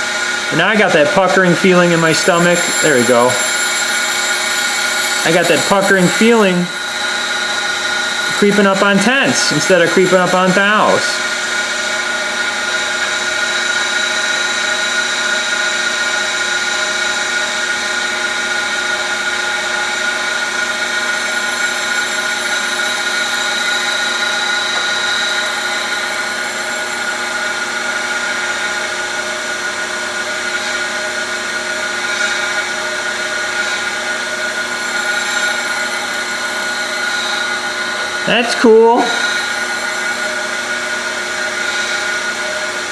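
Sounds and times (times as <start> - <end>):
grinder wheel whining: 0.0 - 42.9.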